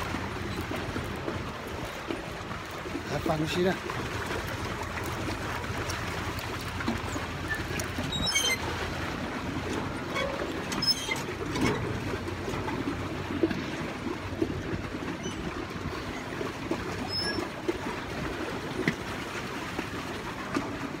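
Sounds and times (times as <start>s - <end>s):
boat engine low rumble: 0.0s - 21.0s
water along the hull: 0.0s - 21.0s.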